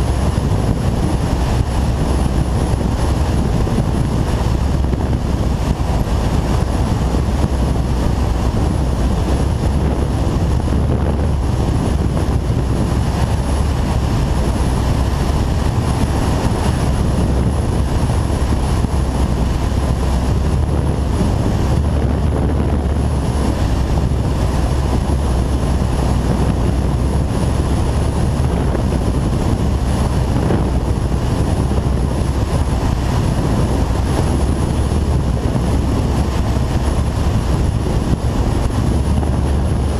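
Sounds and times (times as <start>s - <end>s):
wind rushing: 0.0s - 39.9s.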